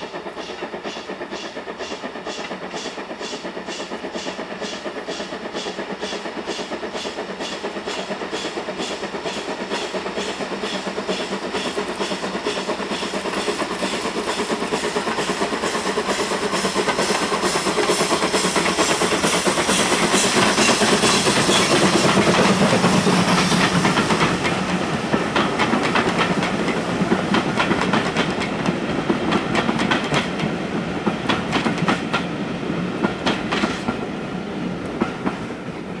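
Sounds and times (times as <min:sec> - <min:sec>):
steam locomotive chuffing: 0:00.0 - 0:36.0.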